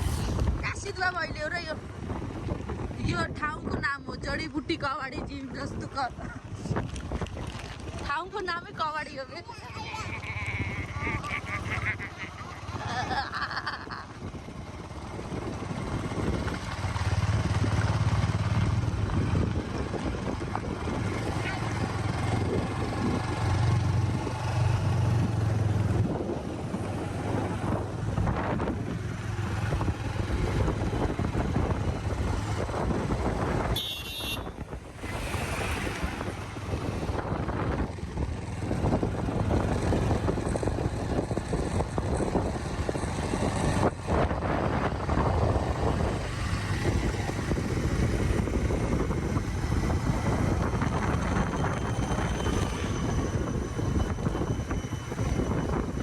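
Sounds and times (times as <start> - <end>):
vehicle road noise rumble: 0.0 - 56.0
wind buffeting microphone: 0.0 - 56.0.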